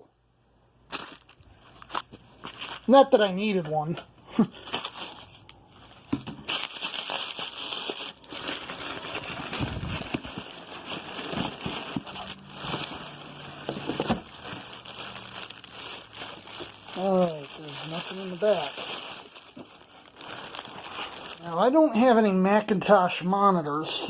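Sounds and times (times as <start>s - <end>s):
packing material rustling: 0.9s - 3.6s, 4.4s - 22.1s.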